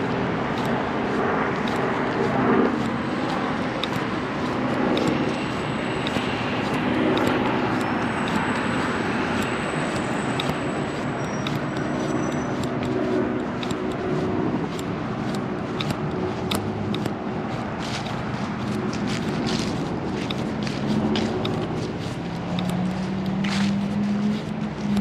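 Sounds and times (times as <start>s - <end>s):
low engine hum: 0.0s - 25.0s
passing motor vehicles: 0.0s - 25.0s.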